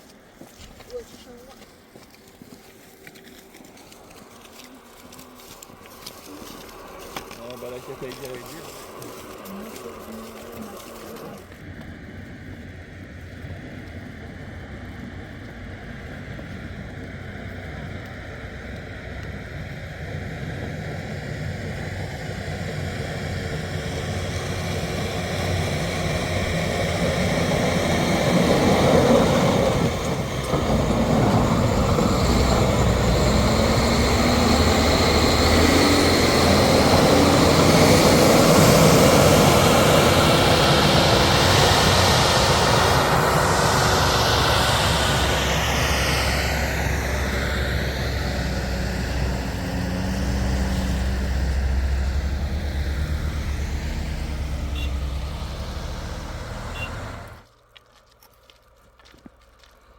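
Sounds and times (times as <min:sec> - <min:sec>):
passing engine rumble: 0:02.9 - 0:57.5.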